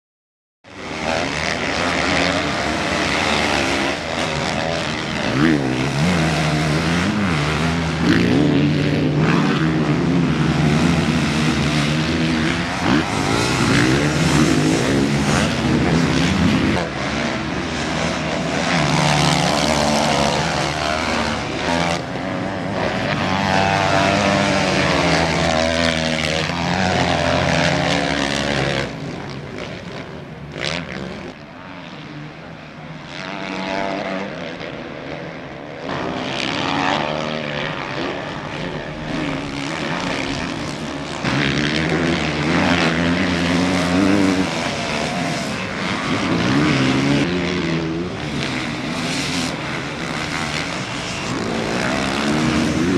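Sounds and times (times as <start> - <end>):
motocross bikes revving: 0.7 - 52.9.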